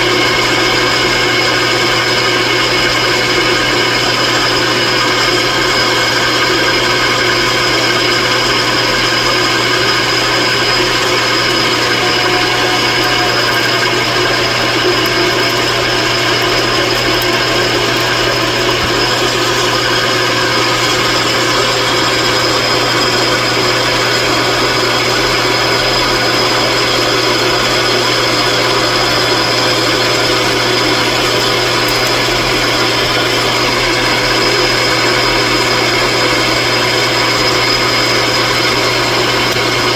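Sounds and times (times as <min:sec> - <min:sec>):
electric motor humming and whining: 0:00.0 - 0:39.9.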